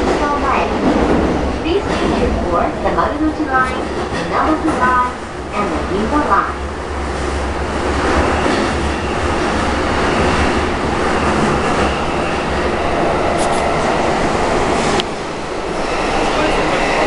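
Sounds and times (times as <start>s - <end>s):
train wheels rumbling on rail: 0.0s - 17.0s
tunnel roar: 0.0s - 17.0s.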